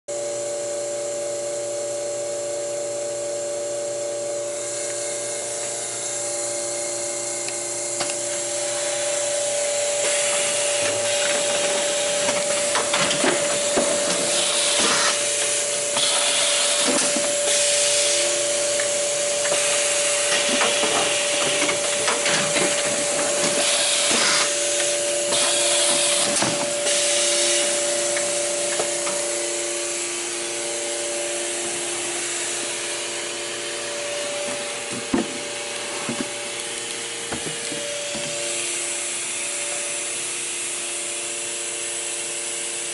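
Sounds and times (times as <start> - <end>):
machine hum: 0.1 - 41.7.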